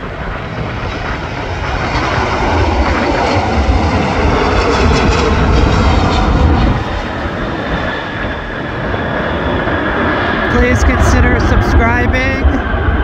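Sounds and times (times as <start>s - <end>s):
jet engine noise: 0.0s - 13.0s
wind buffeting microphone: 0.0s - 13.0s.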